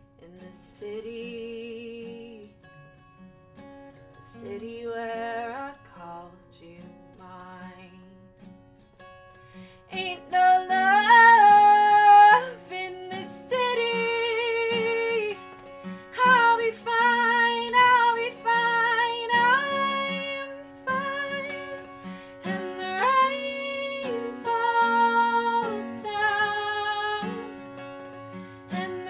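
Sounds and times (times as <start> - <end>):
acoustic guitar: 0.0 - 29.0.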